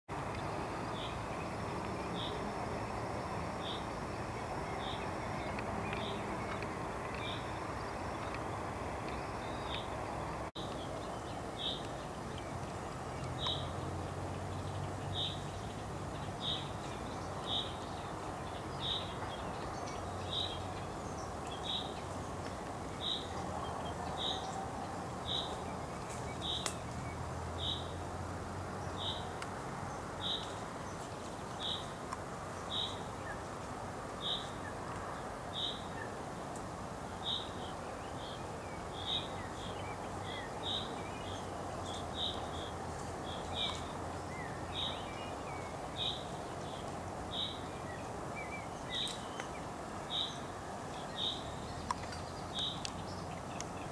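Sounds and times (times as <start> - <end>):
background hiss: 0.1 - 53.9.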